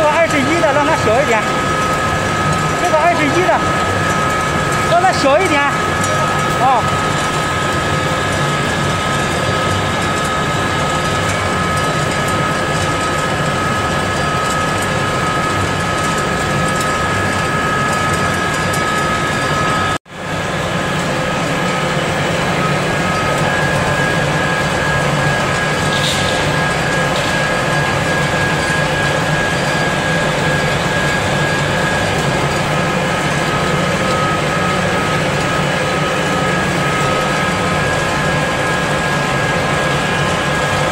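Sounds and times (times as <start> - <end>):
pellet mill drone and whine: 0.0 - 40.9.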